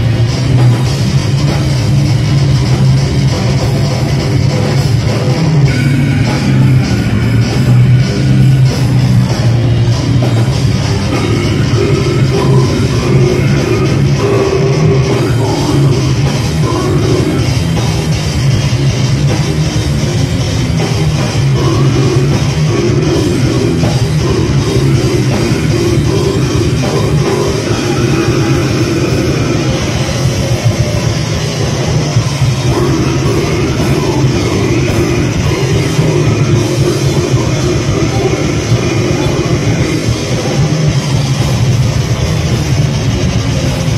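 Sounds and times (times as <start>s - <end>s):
death metal band playing live: 0.0s - 43.9s.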